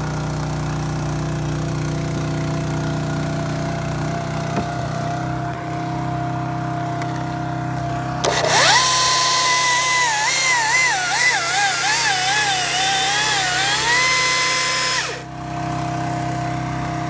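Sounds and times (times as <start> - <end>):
engine idling: 0.0 - 17.0
battery chainsaw cutting wood: 0.5 - 15.7.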